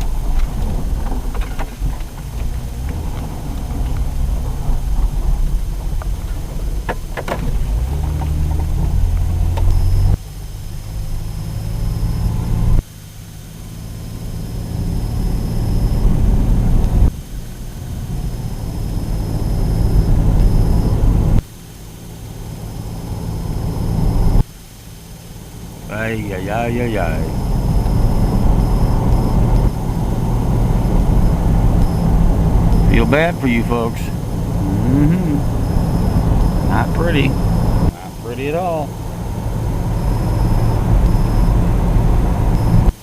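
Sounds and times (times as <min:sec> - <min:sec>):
car engine hum: 0:00.0 - 0:43.0
road noise inside car: 0:00.0 - 0:43.0.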